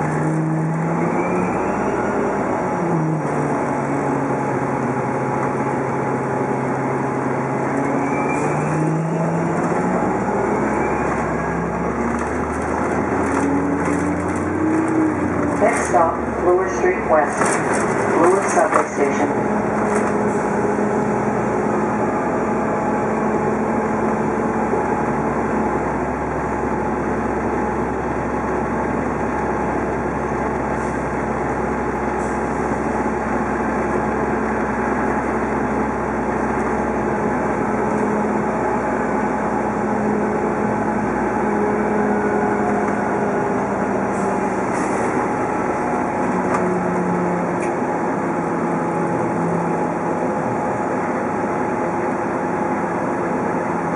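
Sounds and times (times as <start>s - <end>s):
bus drive running: 0.0s - 53.9s
road noise: 0.0s - 53.9s.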